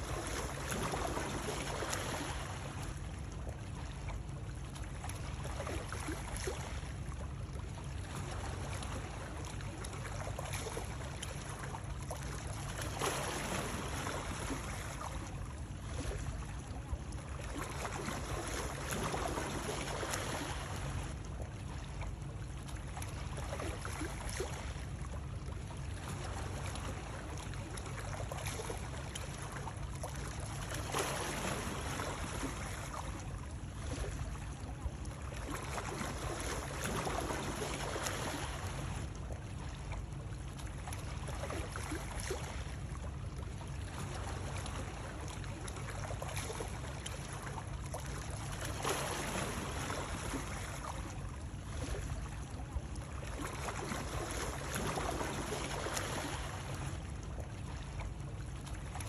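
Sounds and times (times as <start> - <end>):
rushing water sloshing: 0.0 - 59.0.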